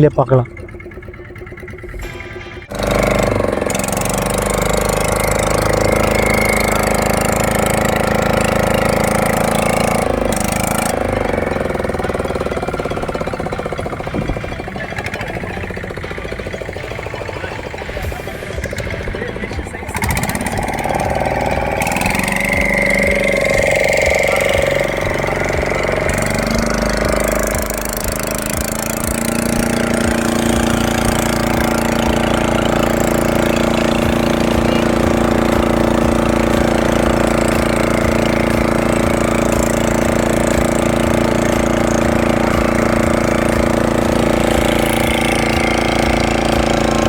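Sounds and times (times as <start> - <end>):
boat engine running hard: 0.0 - 47.0.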